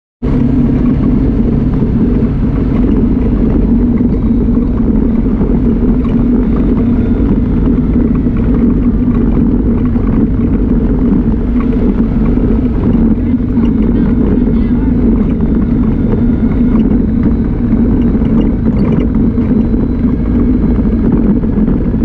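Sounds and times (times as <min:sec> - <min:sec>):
vehicle engine droning on gravel: 0:00.2 - 0:22.0.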